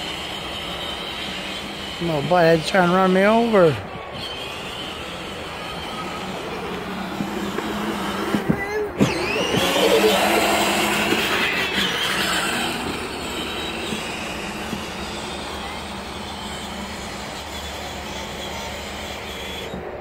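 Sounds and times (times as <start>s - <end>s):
toy car electric motors whining: 0.0s - 20.0s.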